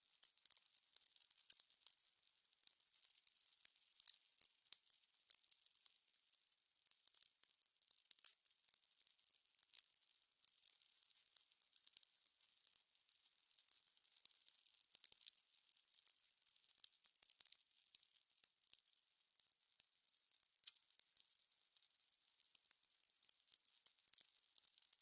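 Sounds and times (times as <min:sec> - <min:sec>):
soft steady hiss: 0:00.0 - 0:25.0
fire crackling and popping: 0:00.2 - 0:06.2, 0:07.1 - 0:25.0.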